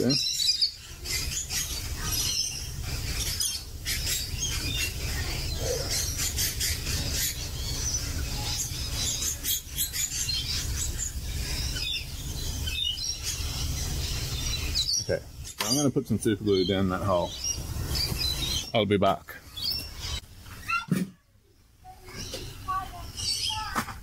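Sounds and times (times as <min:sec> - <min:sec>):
parrots chattering and screeching: 0:00.0 - 0:18.8, 0:19.4 - 0:21.0, 0:21.9 - 0:23.8.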